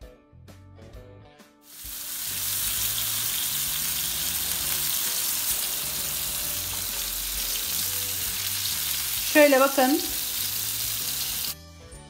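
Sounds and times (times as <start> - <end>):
fish frying in hot oil: 1.7 - 11.6.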